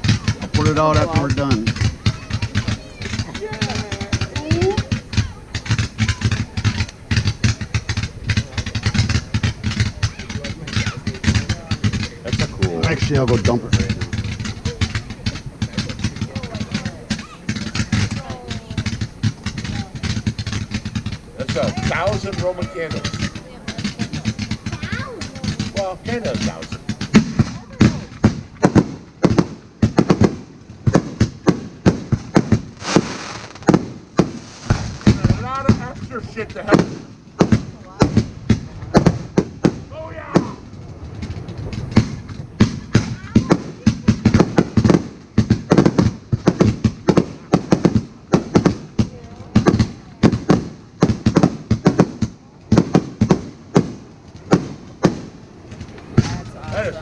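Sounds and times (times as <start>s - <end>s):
fireworks popping and banging: 0.0s - 57.0s.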